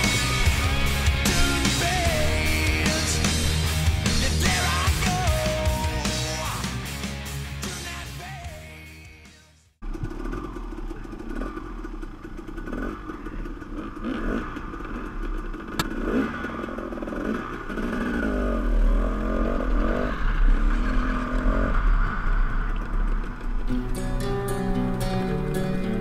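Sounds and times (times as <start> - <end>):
dirt bike engine running: 0.0 - 9.0, 9.8 - 26.0.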